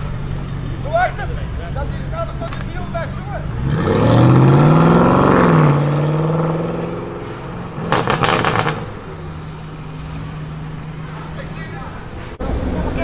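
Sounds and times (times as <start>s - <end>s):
car engine droning: 0.0s - 13.0s
exhaust crackles: 0.0s - 13.0s.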